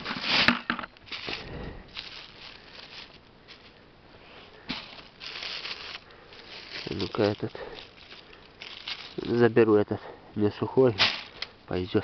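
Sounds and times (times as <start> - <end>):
dry leaves rustling and crunching: 0.0 - 9.8, 11.0 - 11.5.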